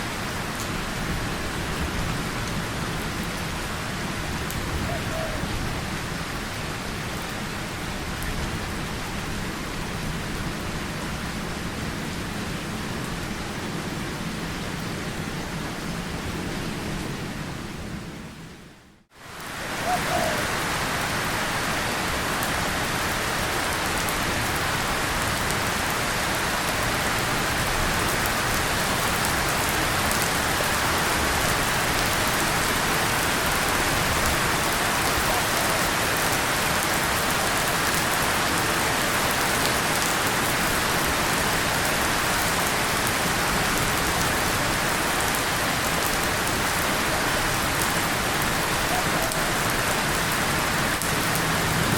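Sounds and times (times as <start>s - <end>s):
rain on tin and leaves: 0.0s - 17.4s, 19.1s - 51.9s.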